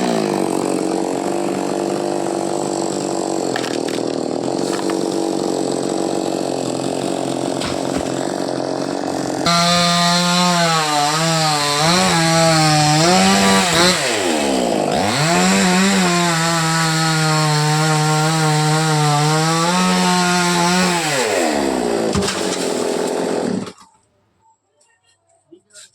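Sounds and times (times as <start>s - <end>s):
chainsaw running at high revs: 0.0s - 23.8s.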